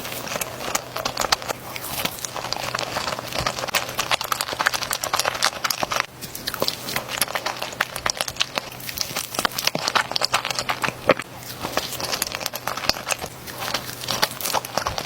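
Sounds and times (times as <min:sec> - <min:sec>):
wet chewing mouth clicks: 0:00.0 - 0:15.0.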